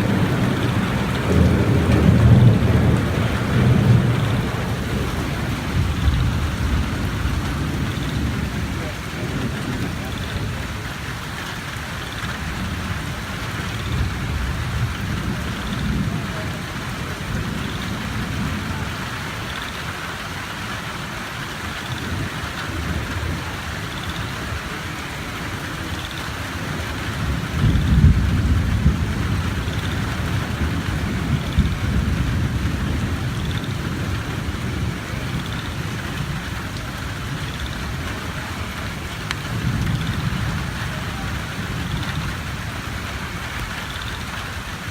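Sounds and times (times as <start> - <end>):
heavy rain falling: 0.0 - 44.9
thunder rumbling: 0.0 - 44.9.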